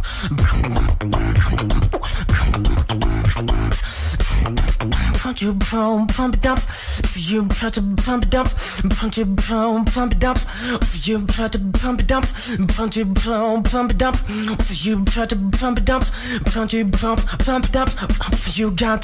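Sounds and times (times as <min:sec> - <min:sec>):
beatboxing into a microphone: 0:00.0 - 0:19.0.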